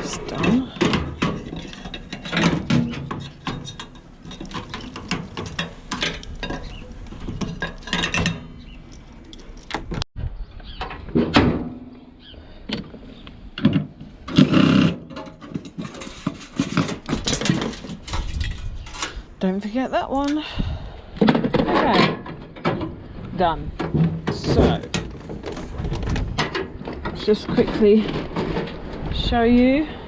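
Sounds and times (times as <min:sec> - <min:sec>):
hand tools and metal parts clattering: 0:00.0 - 0:10.0, 0:12.7 - 0:20.4, 0:21.2 - 0:29.8.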